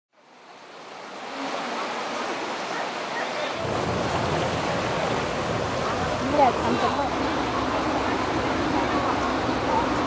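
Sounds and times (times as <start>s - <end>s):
floodwater rushing: 0.1s - 10.0s.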